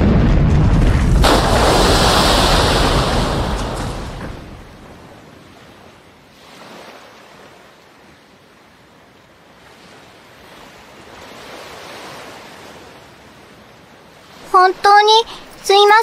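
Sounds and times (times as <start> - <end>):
sea waves washing in: 0.0 - 16.0.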